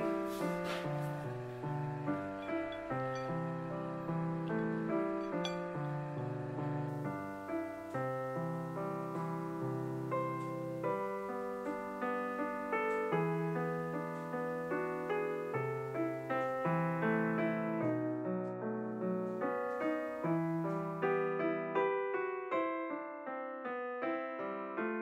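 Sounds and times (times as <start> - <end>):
gentle piano tune: 0.0 - 25.0.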